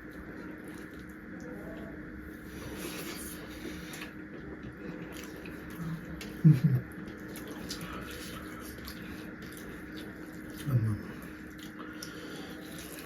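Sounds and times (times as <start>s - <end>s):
people chewing soupy food: 0.0s - 13.0s.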